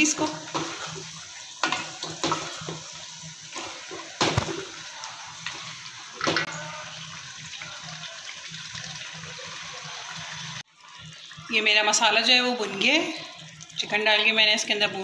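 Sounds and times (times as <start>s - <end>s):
chicken sizzling in a metal pot: 0.0s - 15.0s.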